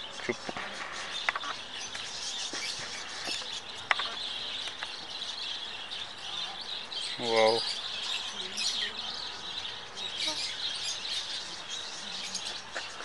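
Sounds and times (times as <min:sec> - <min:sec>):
birds twittering: 0:00.0 - 0:13.0.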